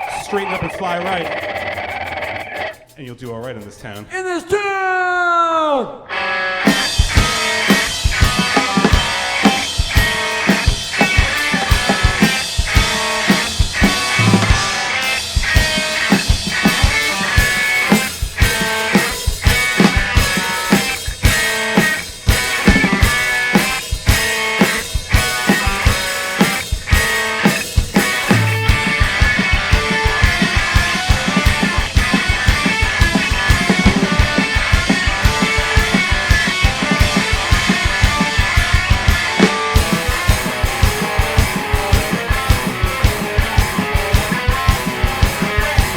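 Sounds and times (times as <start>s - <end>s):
drum kit beat: 0.0s - 5.0s, 6.7s - 45.9s
electric guitar and bass: 6.1s - 45.9s.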